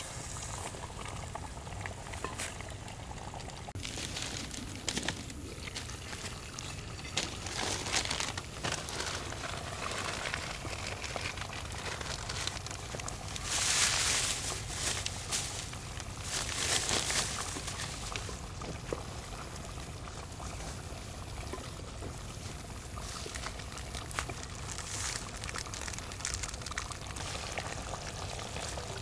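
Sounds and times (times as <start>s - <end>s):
curry simmering in a clay pot: 0.0s - 29.0s
small crackles: 0.3s - 29.0s.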